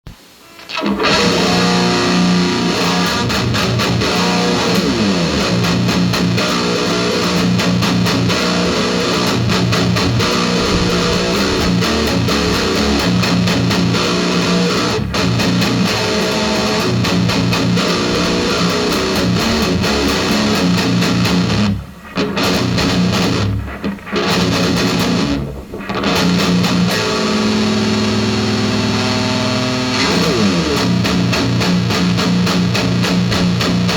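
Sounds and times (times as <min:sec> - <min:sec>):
electric guitar playing low rock riff: 0:00.4 - 0:33.9.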